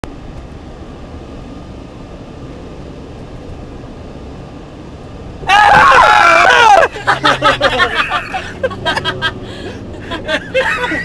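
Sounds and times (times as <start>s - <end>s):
vehicle cabin road rumble: 0.0s - 11.0s.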